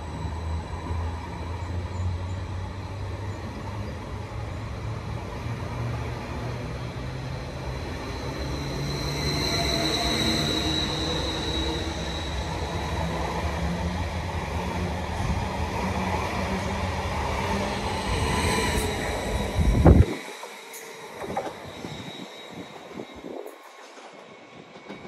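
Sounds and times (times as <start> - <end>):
train wheels on rails: 0.0 - 25.0.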